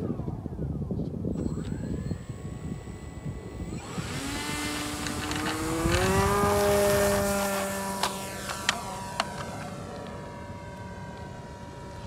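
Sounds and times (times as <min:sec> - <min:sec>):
electric motor and propeller whine: 0:00.0 - 0:12.0.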